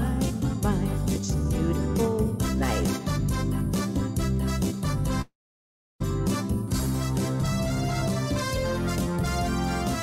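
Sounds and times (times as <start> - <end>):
cha-cha backing music: 0.0 - 5.3, 6.0 - 10.0.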